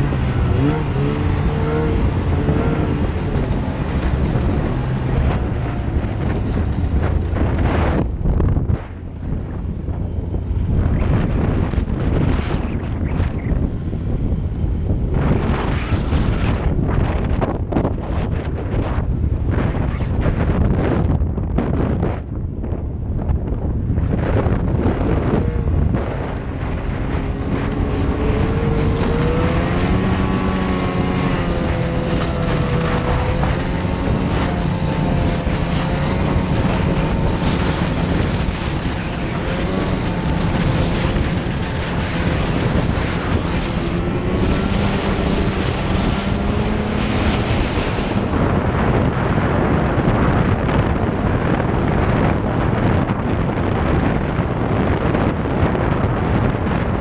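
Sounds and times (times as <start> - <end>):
snowmobile engine running: 0.0 - 57.0
track noise: 0.0 - 57.0
wind rushing: 0.0 - 57.0.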